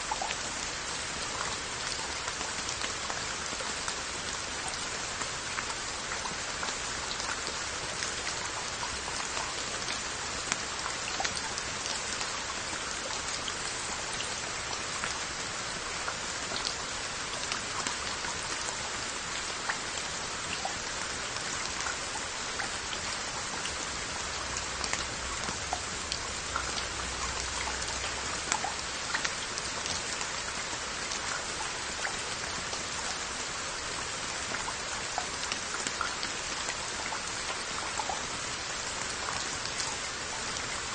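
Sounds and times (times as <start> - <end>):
raindrops ticking on pottery: 0.0 - 40.9
steady rain hiss: 0.0 - 40.9.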